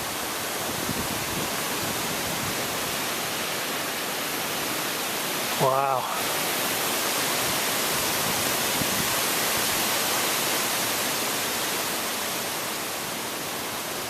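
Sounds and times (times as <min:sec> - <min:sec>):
storm wind through trees: 0:00.0 - 0:14.0.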